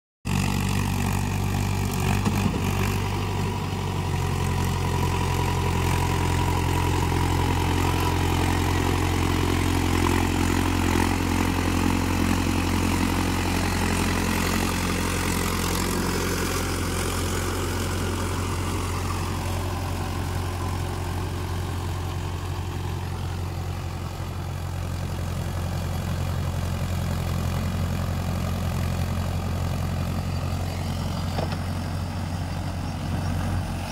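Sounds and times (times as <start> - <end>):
tractor diesel engine under load: 0.3 - 33.9.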